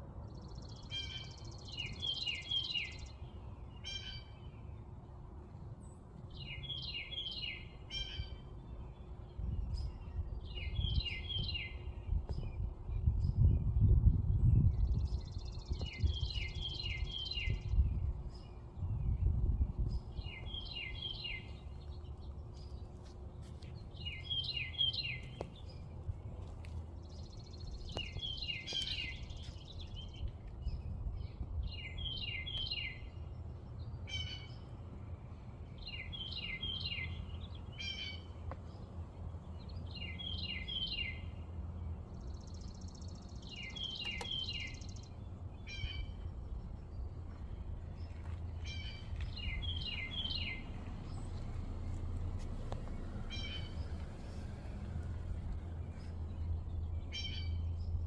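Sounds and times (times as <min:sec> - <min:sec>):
songbird singing: 0:00.0 - 0:58.0
wind rumble on microphone: 0:05.7 - 0:34.1, 0:38.7 - 0:58.0.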